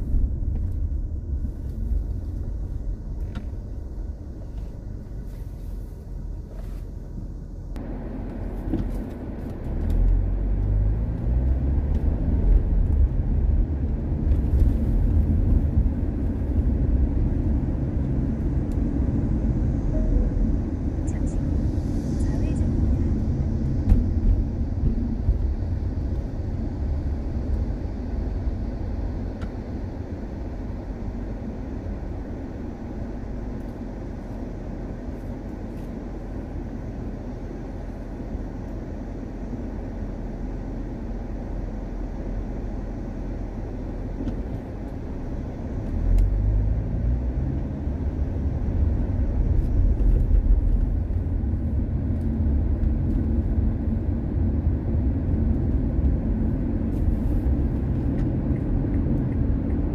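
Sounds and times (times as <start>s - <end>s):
car tyres and engine on road: 0.0s - 59.9s.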